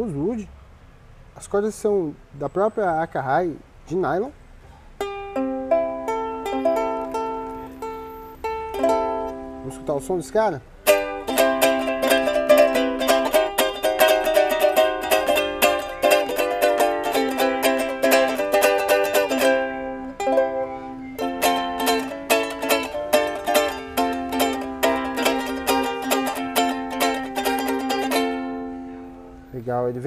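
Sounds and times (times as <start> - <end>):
ukulele strumming chords: 5.0 - 29.5.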